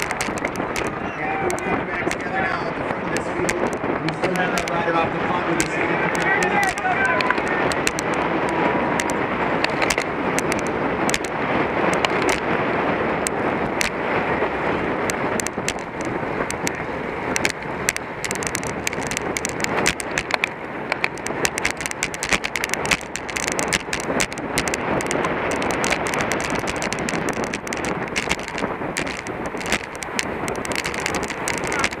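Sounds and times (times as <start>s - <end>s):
sharp little clicks and ticks: 0.0s - 12.6s, 13.2s - 14.0s, 14.9s - 32.0s
bicycle rolling noise: 0.0s - 32.0s
wind on microphone: 0.0s - 32.0s.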